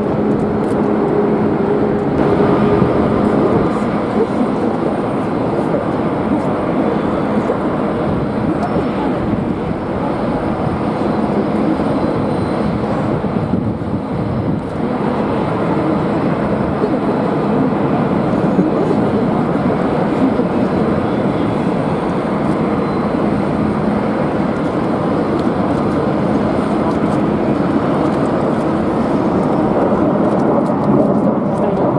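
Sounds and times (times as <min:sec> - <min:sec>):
jet engine noise: 0:00.0 - 0:31.9
wind buffeting microphone: 0:00.0 - 0:31.9.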